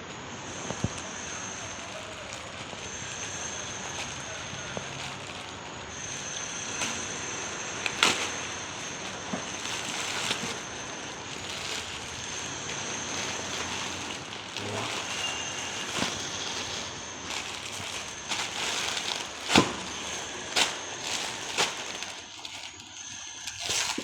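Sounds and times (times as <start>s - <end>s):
plastic packaging rustling: 0.0s - 24.0s.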